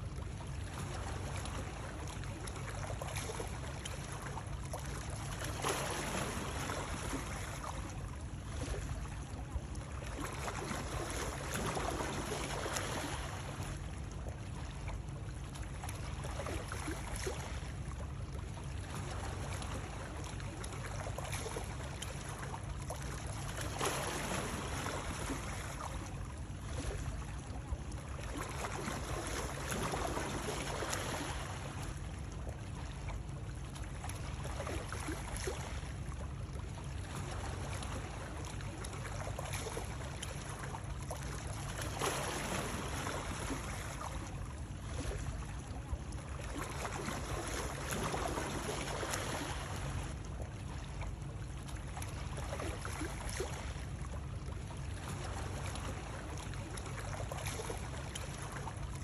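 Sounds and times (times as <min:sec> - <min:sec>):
water lapping: 0:00.0 - 0:59.0.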